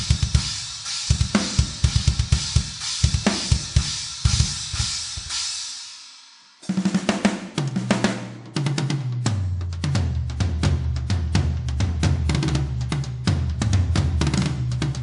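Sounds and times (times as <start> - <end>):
metal drum kit playing: 0.0 - 5.8, 6.6 - 15.0.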